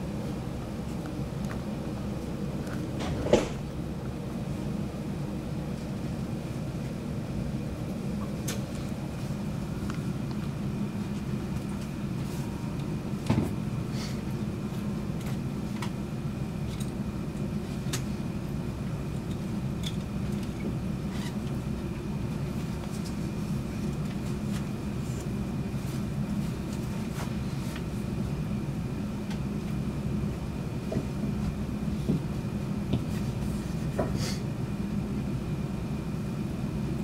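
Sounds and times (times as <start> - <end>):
train coach rumble and hum: 0.0 - 37.0.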